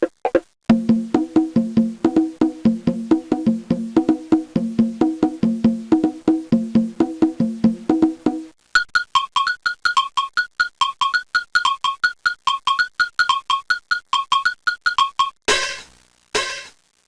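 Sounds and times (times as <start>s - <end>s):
wooden percussion strikes: 0.0s - 16.7s.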